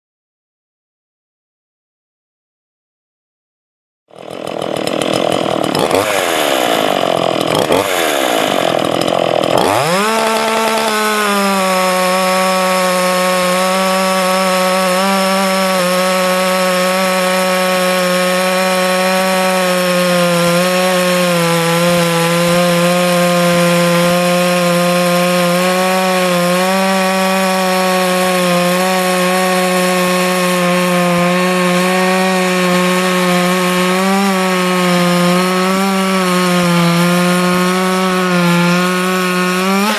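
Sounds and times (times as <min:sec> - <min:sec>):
chainsaw sawing through wood: 0:04.1 - 0:39.9.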